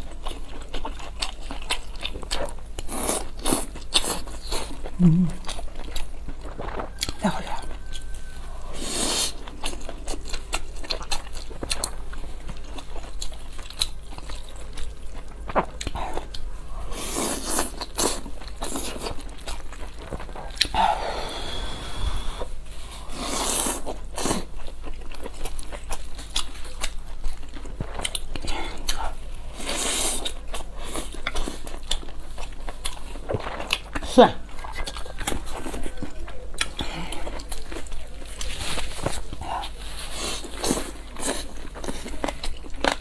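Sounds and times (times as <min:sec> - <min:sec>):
wet chewing and lip-smacking: 0:00.0 - 0:20.9, 0:23.1 - 0:43.0.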